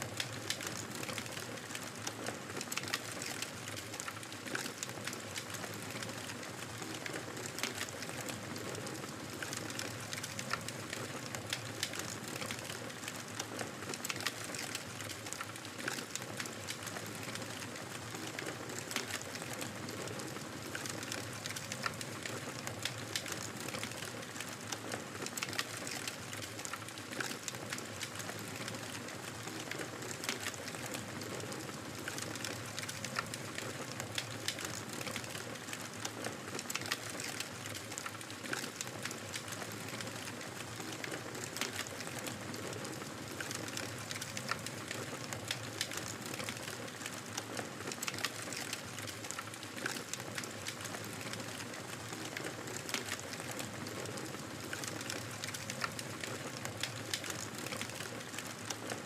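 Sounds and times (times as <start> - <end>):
fire popping and snapping: 0.1 - 59.0.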